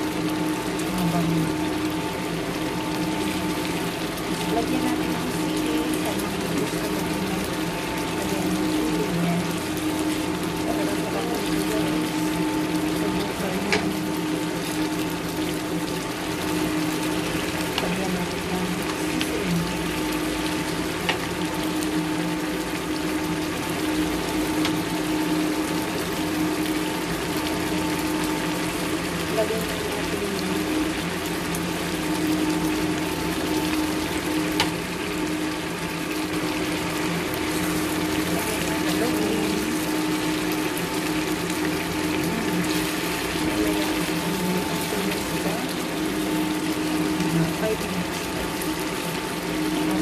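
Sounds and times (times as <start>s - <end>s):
sauce bubbling in a pan: 0.0s - 50.0s
steady hum: 0.0s - 50.0s.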